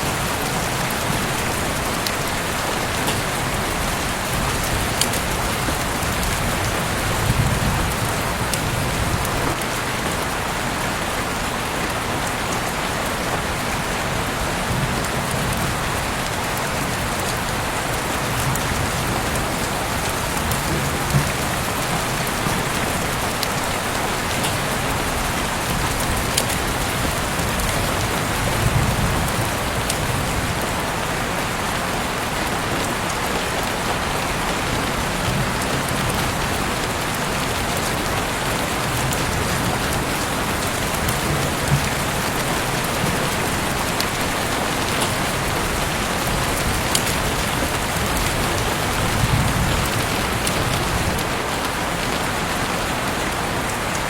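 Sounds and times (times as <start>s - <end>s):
heavy rain hissing: 0.0s - 54.0s
raindrops ticking on surfaces: 0.0s - 54.0s.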